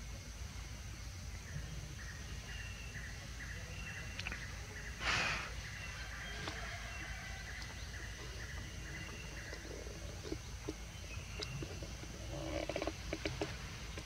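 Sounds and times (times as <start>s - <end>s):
low forest rumble: 0.0s - 14.0s.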